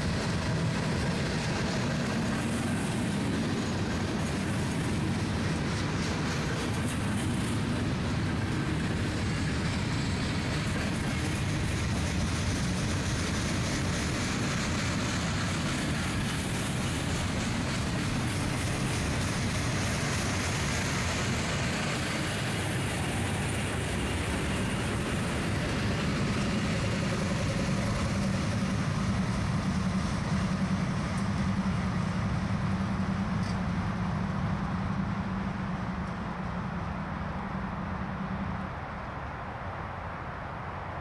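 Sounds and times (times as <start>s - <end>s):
diesel locomotive drone: 0.0s - 41.0s
railcar wheels rumbling and clattering: 0.0s - 41.0s.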